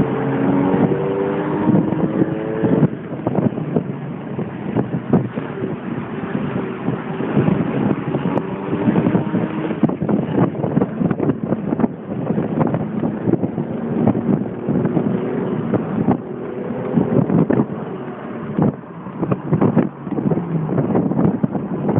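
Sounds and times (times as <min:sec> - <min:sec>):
car engine running: 0:00.0 - 0:21.9
wind buffeting microphone: 0:00.0 - 0:21.9.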